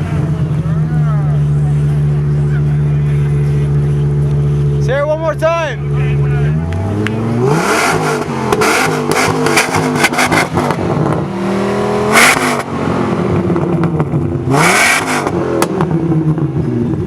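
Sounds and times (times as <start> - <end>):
exhaust crackles: 0.0 - 17.0
sports car engine revving: 0.0 - 17.0.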